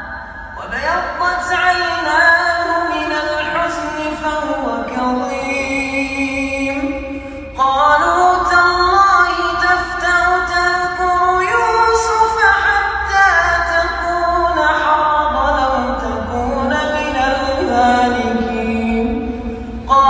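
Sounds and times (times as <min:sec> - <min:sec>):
man reciting in melodic chant: 0:00.0 - 0:20.0.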